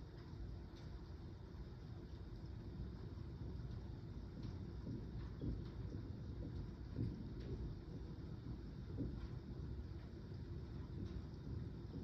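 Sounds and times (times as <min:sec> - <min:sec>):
low thunder rumble: 0:02.3 - 0:12.0.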